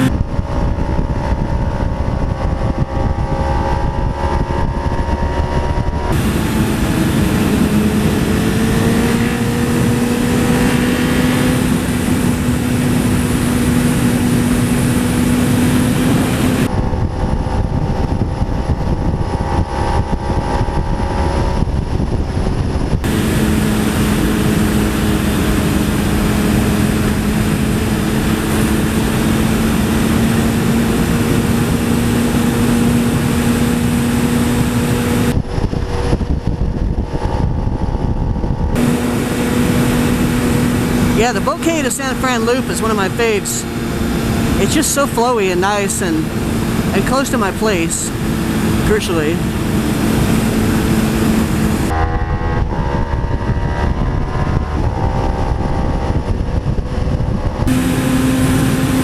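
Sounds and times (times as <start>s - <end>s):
wind rushing over microphone: 0.0s - 41.4s, 45.7s - 59.0s
motorcycle engines running: 0.0s - 59.0s.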